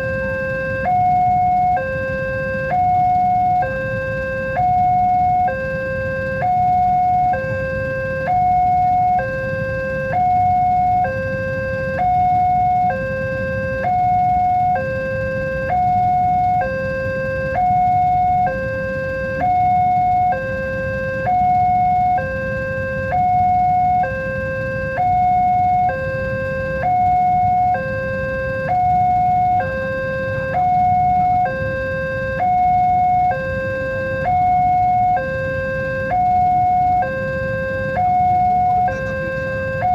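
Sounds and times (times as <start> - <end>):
two-tone warning alarm: 0.0 - 39.9.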